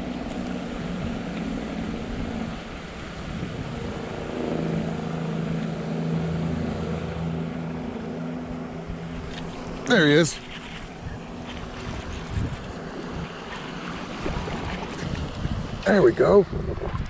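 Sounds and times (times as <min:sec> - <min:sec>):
wind noise on microphone: 0:00.0 - 0:05.6, 0:08.8 - 0:17.0
engine drone: 0:00.0 - 0:17.0.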